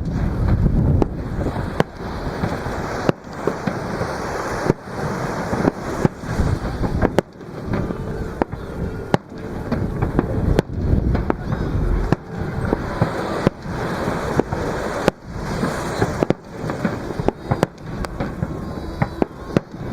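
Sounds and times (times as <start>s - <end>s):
fireworks bangs: 0.0s - 19.9s
waves breaking: 0.0s - 19.9s.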